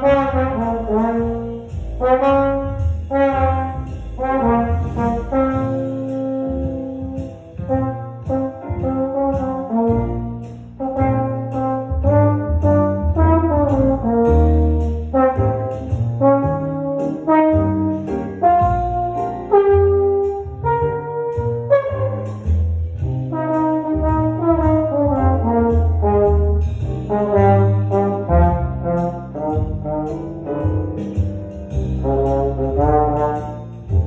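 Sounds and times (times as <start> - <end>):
trombone solo melody: 0.0 - 22.6, 23.2 - 34.0.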